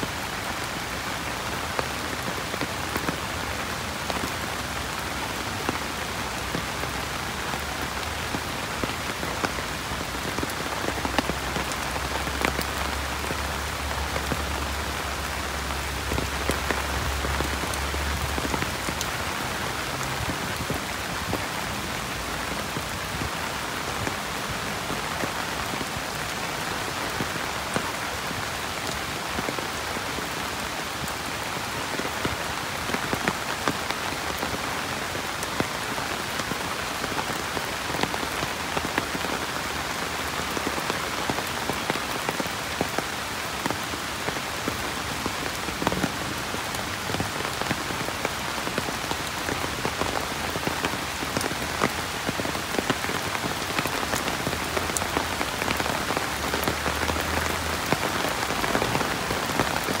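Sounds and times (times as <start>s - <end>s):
raindrops ticking close by: 0.0s - 60.0s.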